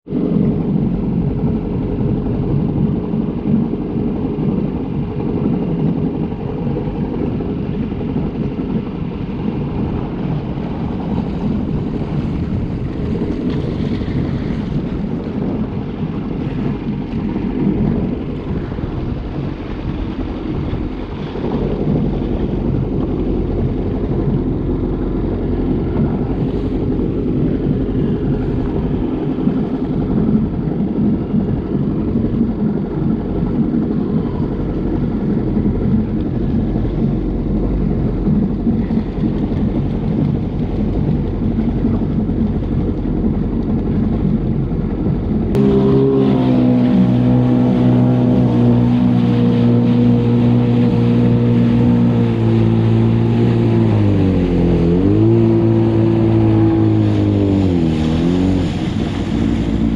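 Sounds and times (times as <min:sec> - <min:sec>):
jet ski engine droning: 0:00.0 - 0:59.9
wind on microphone: 0:00.0 - 0:59.9.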